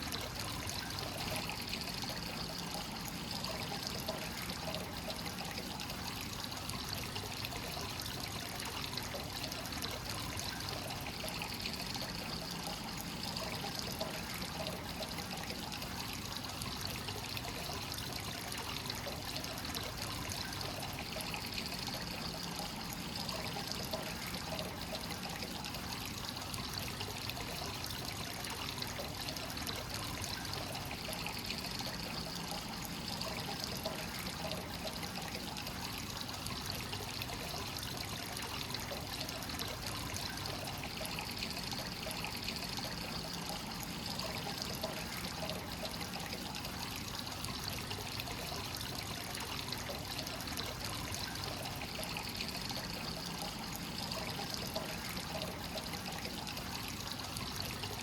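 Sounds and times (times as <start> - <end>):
water pouring into a bath: 0.0 - 58.0.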